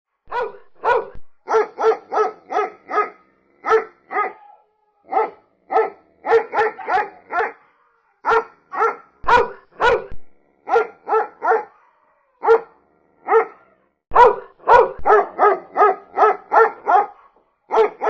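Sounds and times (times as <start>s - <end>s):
dog barking: 0.2s - 18.0s.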